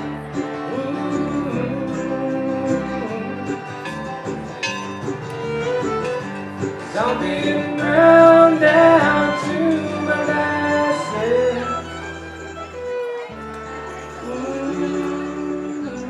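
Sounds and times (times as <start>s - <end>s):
string instruments playing melody: 0.0s - 16.0s.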